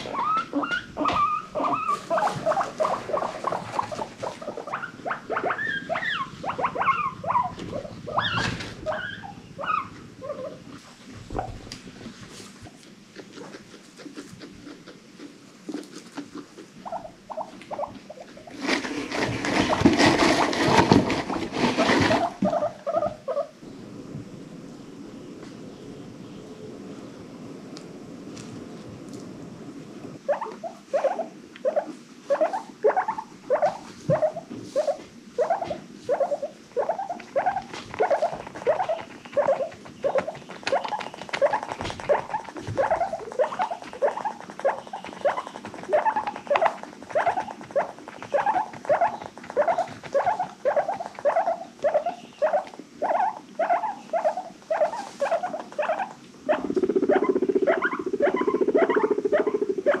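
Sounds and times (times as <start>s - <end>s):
guinea pigs wheeking: 0.0s - 23.6s, 30.2s - 60.0s.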